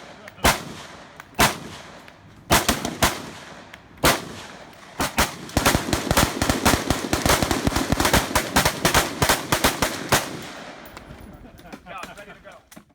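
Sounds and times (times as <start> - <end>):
rapid rifle gunfire: 0.0 - 10.8.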